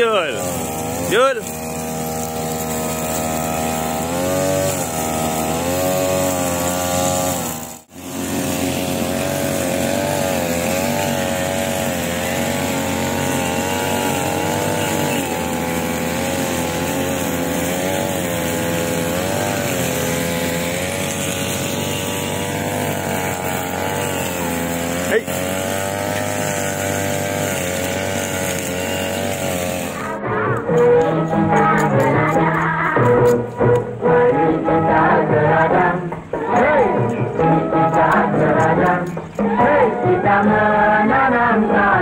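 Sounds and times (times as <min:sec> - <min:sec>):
brush cutter engine running: 0:00.0 - 0:34.5.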